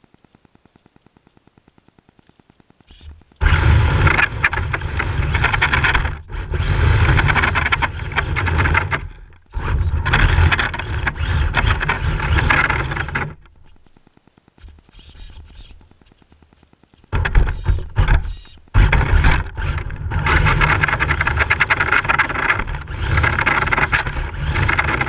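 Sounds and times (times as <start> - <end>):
rc car tyres scraping: 2.9 - 14.0, 14.6 - 25.0.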